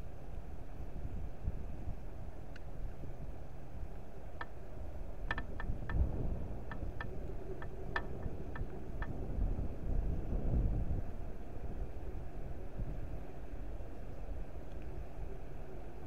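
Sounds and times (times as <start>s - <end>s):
wind buffeting microphone: 0.5s - 15.8s.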